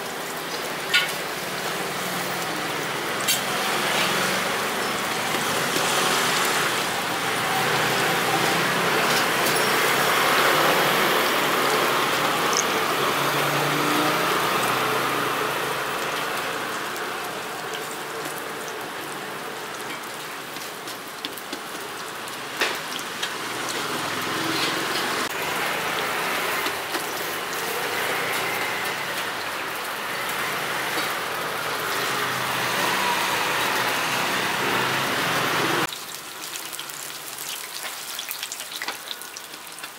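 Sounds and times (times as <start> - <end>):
hot oil sizzling: 0.0 - 39.9.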